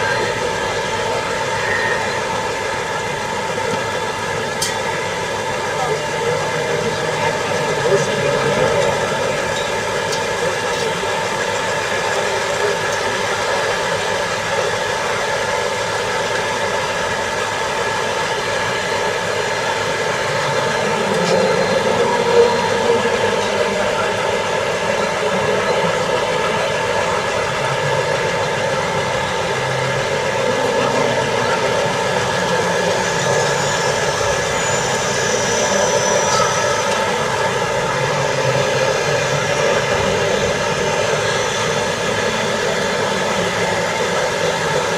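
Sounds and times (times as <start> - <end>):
electric motors whining: 0.0 - 44.9.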